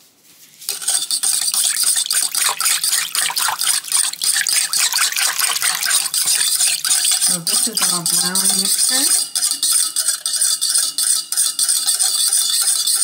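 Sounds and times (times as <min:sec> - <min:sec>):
whisking sauce in a bowl: 0:00.7 - 0:13.0.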